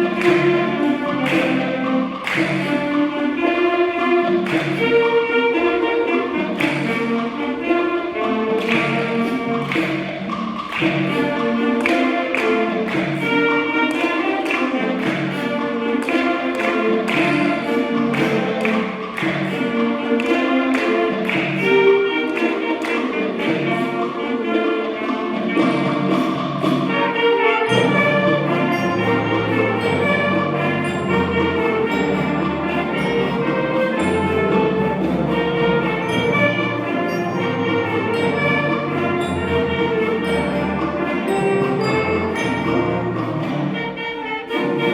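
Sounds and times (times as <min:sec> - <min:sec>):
school band playing brass music: 0:00.0 - 0:44.9.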